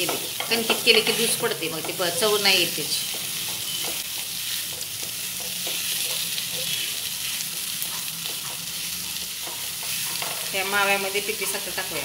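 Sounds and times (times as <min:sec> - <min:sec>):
sizzling hiss in a pan: 0:00.0 - 0:12.0
spatula scraping a pan: 0:00.0 - 0:12.0.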